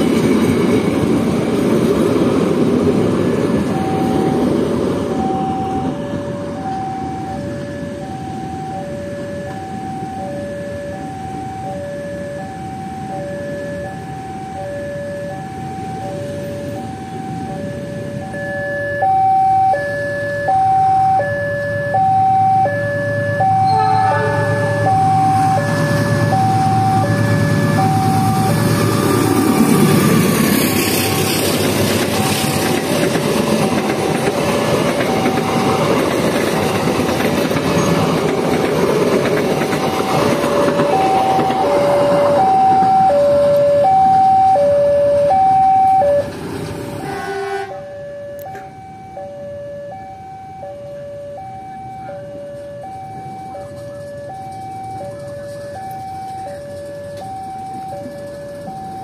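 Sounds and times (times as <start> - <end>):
passing train rumble: 0.0 - 59.0
level-crossing alarm two-tone chime: 3.3 - 38.0, 39.5 - 46.3, 47.7 - 59.0.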